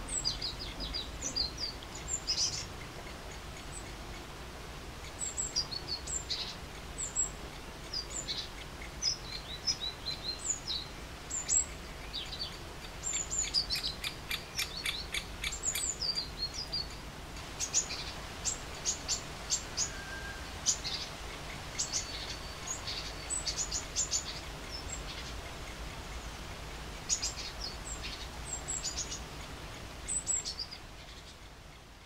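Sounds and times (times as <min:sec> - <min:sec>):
birds chirping: 0:00.0 - 0:32.0
low background noise: 0:00.0 - 0:32.0.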